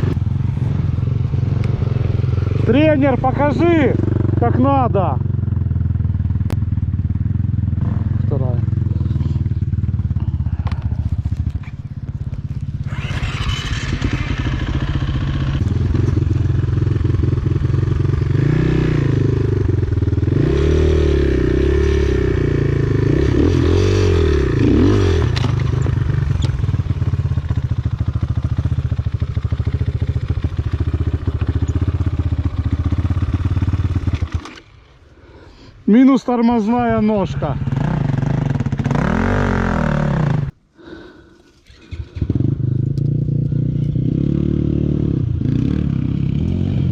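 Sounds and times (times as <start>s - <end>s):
motorcycle engine revving: 0.0s - 35.4s, 36.4s - 46.9s.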